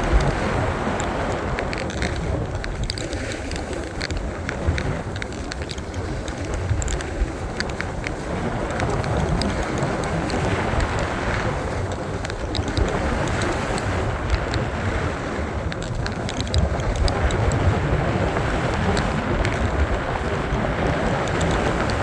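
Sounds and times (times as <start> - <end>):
small crackling ticks: 0.0 - 22.0
wind buffeting microphone: 0.0 - 22.0.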